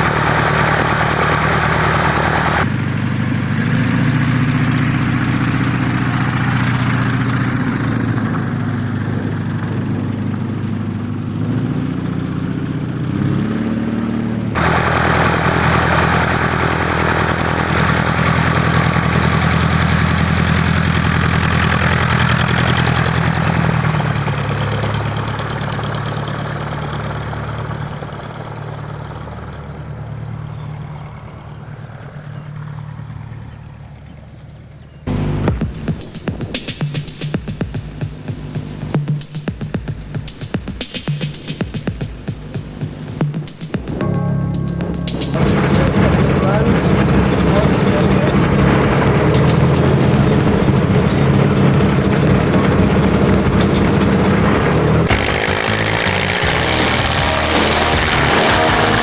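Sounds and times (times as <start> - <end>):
light aircraft piston engine: 0.0 - 59.0.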